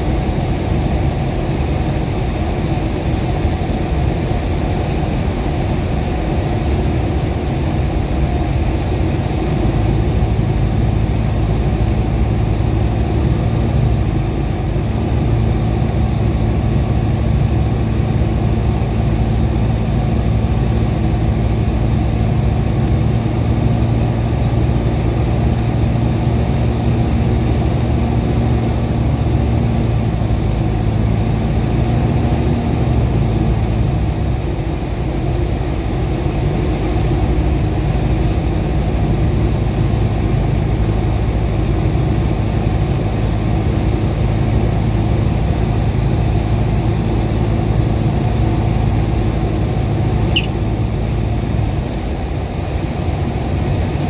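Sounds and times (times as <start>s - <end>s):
light aircraft engine and propeller: 0.0s - 54.0s
steady low hum: 0.0s - 54.0s.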